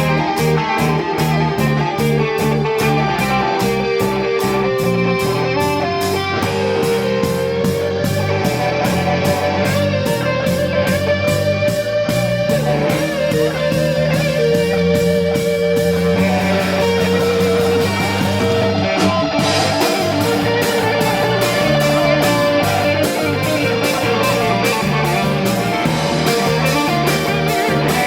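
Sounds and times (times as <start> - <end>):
live rock band instrumental: 0.0 - 28.0.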